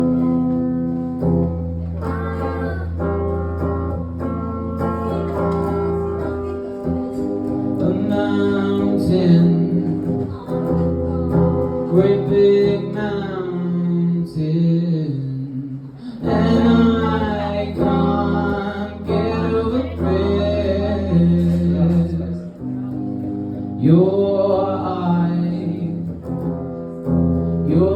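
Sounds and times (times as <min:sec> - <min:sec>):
held accompaniment chords: 0:00.0 - 0:27.9
person singing live: 0:01.8 - 0:03.7, 0:04.5 - 0:27.9.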